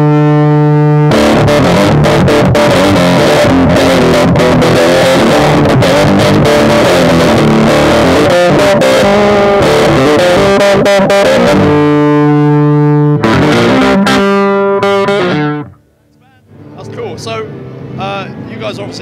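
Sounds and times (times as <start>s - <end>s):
distorted electric guitar riffing: 0.0s - 18.5s.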